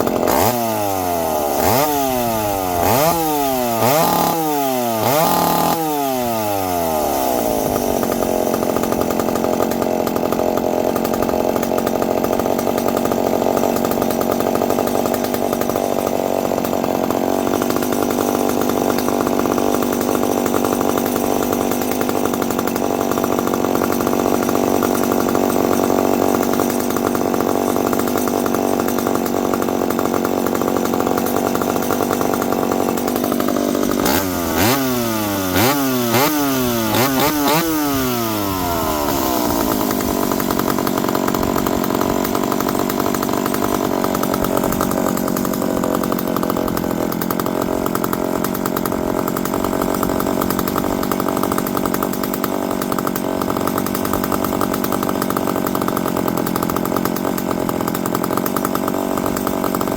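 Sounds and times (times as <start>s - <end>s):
two-stroke chainsaw engine: 0.0s - 59.9s.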